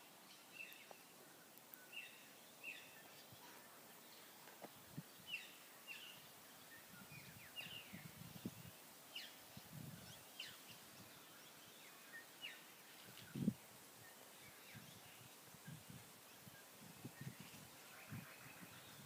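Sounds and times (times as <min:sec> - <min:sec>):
birds chirping: 0:00.0 - 0:19.0
faint outdoor hiss: 0:00.0 - 0:19.0.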